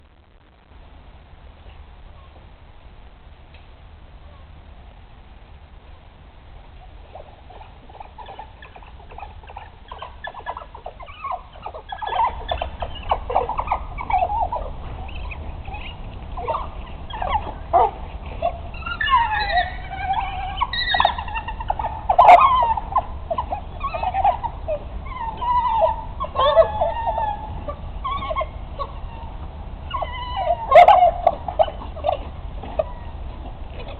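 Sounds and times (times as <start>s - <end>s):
wild dogs twittering: 6.7s - 33.9s.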